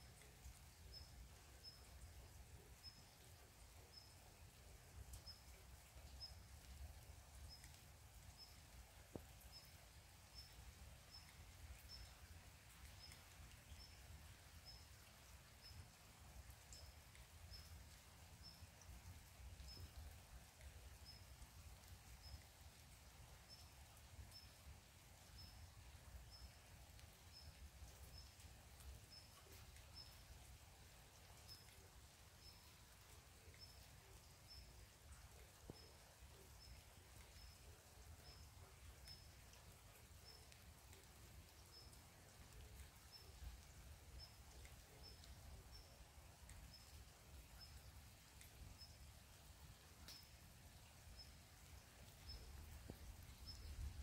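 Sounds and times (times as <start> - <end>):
light rain hiss: 0.0 - 54.0.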